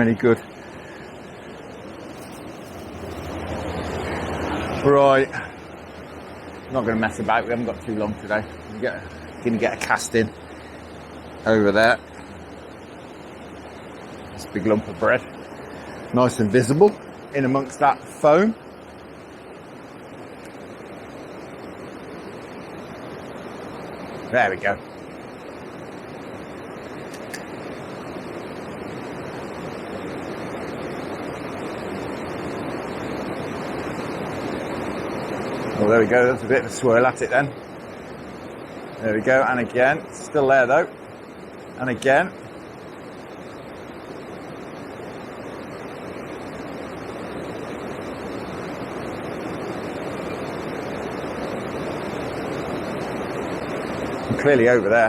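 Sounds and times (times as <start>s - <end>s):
water rushing over a weir: 0.0s - 55.0s.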